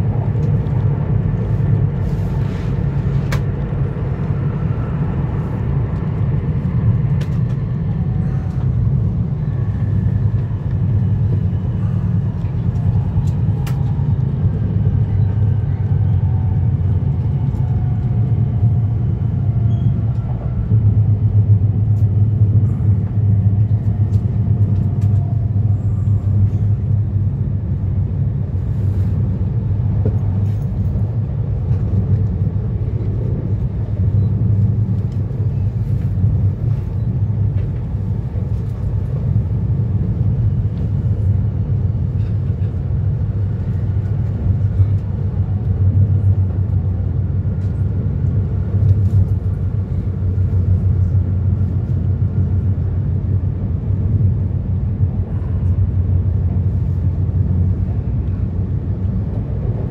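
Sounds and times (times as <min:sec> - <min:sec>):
train running rumble: 0:00.0 - 0:59.9.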